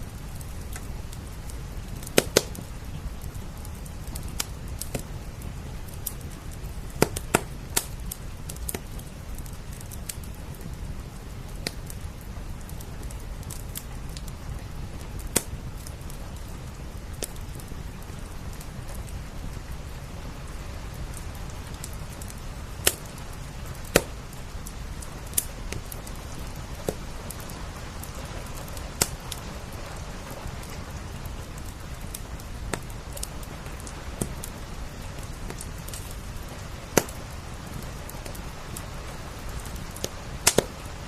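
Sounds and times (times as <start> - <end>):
rain hissing: 0.0 - 41.0
wood fire crackling: 0.0 - 41.0.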